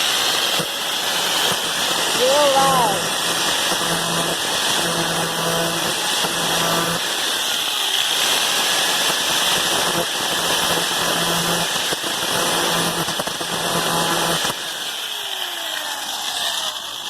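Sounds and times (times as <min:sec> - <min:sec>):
angle grinder grinding metal: 0:00.0 - 0:17.0.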